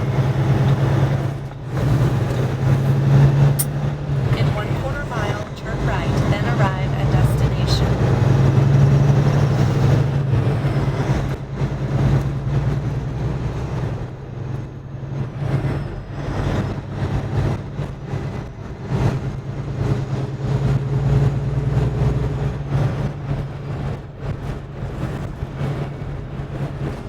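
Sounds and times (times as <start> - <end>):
diesel truck engine droning: 0.0 - 27.0
road noise: 0.0 - 27.0.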